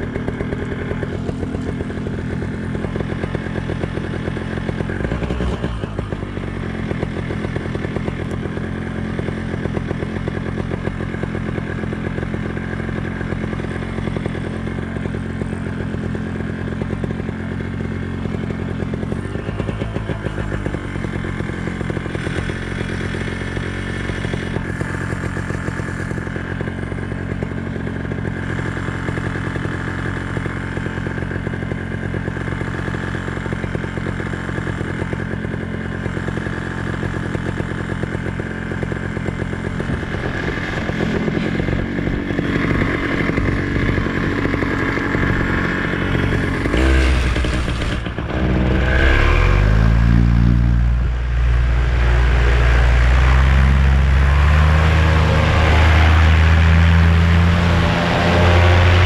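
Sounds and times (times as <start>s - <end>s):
paramotor engine running: 0.0s - 59.0s.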